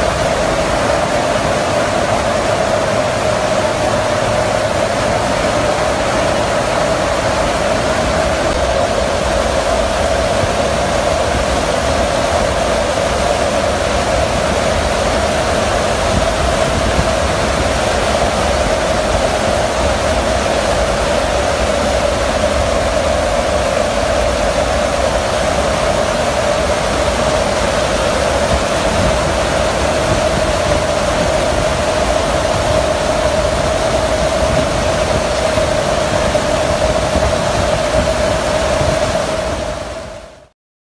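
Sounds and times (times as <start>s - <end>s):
aircraft engine drone: 0.0s - 40.5s
wind inside aircraft: 0.0s - 40.5s.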